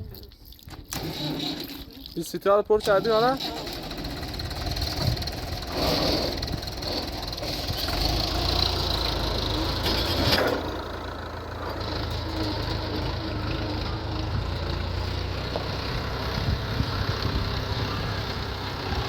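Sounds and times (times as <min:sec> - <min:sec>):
tractor engine rumbling: 0:00.0 - 0:19.0.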